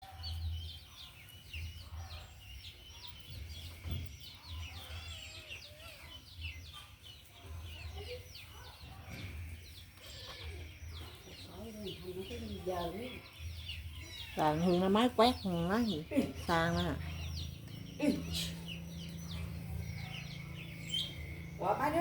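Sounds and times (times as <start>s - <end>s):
many birds chirping: 0.0s - 22.0s.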